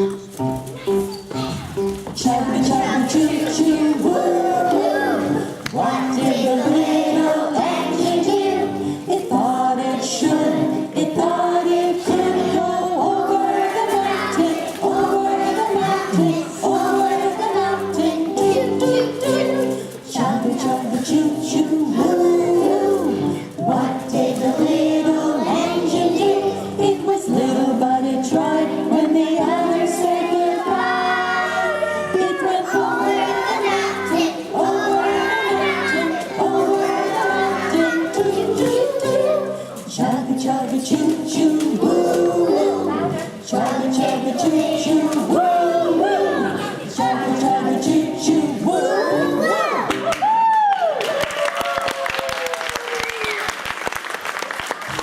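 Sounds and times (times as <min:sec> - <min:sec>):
musical accompaniment: 0:00.0 - 0:50.4
children singing together: 0:01.3 - 0:50.0.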